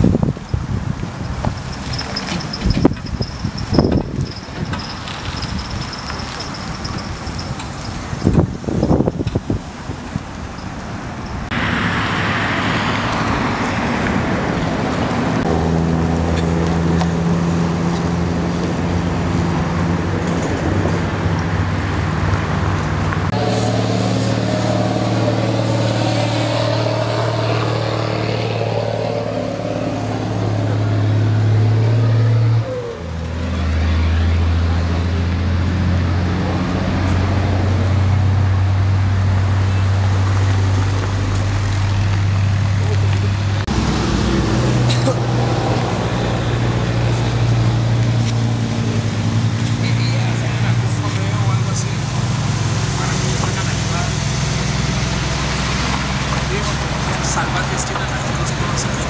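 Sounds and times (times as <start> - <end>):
low engine hum: 0.0 - 59.0
road noise: 0.0 - 59.0.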